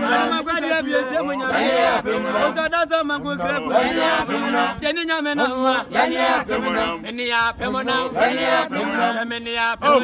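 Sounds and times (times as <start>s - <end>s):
group of people chanting: 0.0s - 10.0s.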